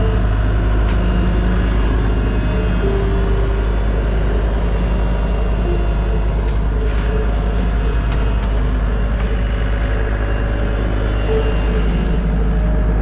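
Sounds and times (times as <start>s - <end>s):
diesel engine rumbling: 0.0s - 13.0s
short high machine tones: 0.0s - 13.0s.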